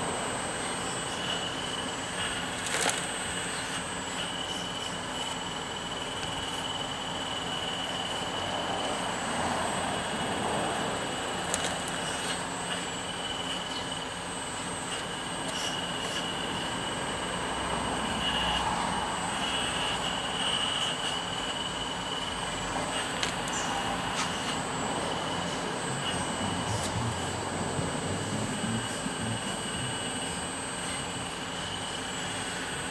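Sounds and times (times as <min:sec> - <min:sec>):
hydraulic pump whining: 0:00.0 - 0:32.9.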